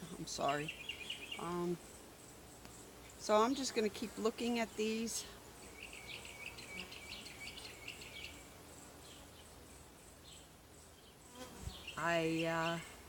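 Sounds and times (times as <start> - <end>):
low outdoor background: 0.0 - 13.0
songbird chirping: 0.0 - 13.0.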